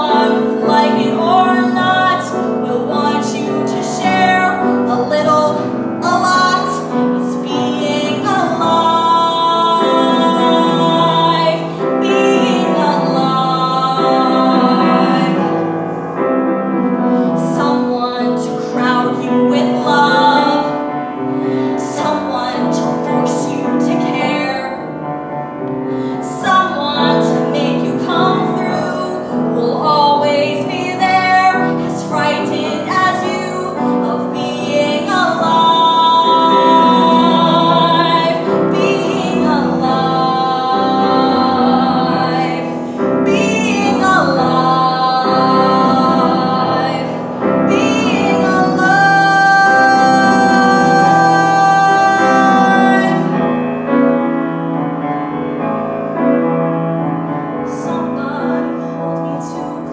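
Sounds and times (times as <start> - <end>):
woman singing: 0.0 - 15.9, 16.8 - 25.1, 26.0 - 53.7, 57.5 - 59.9
grand piano accompaniment: 0.0 - 59.9.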